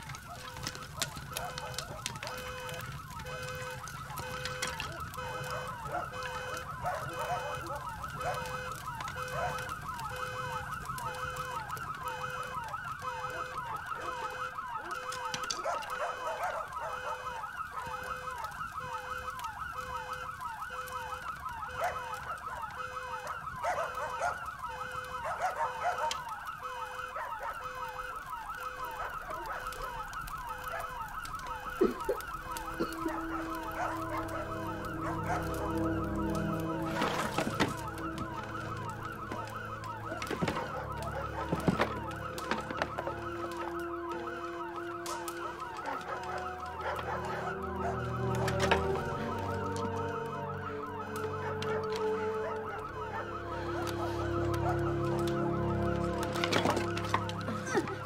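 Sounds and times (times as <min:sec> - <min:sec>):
emergency sirens yelping: 0:00.0 - 0:58.0.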